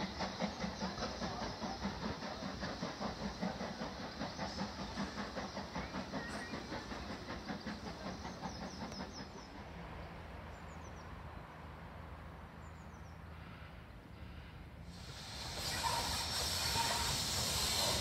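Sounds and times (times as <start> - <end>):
distant steam locomotive: 0.0 - 18.0.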